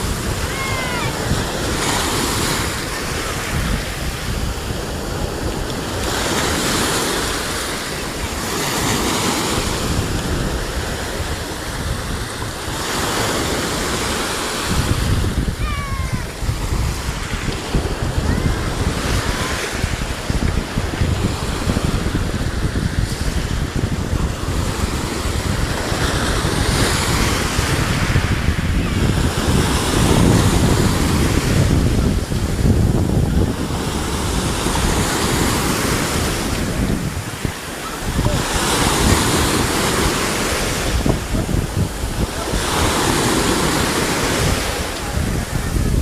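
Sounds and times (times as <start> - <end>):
sea waves breaking: 0.0 - 46.0
wind buffeting microphone: 0.0 - 46.0.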